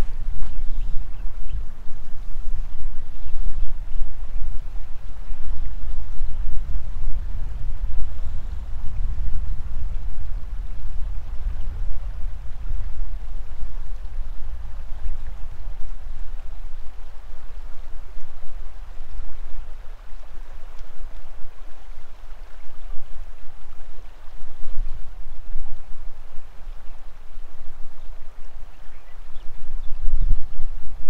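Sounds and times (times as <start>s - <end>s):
low rumble: 0.0s - 31.0s
river water flowing: 0.0s - 31.0s.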